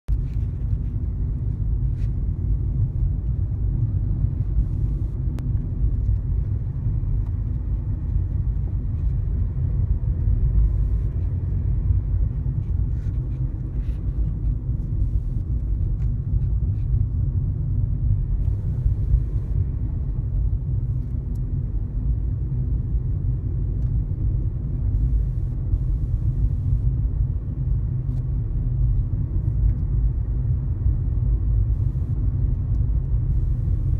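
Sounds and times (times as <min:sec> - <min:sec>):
car tyres and engine rumbling: 0:00.1 - 0:33.9.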